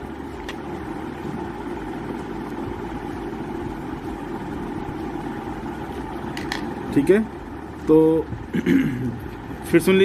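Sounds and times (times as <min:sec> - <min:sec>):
motor hum and hiss: 0:00.0 - 0:10.0.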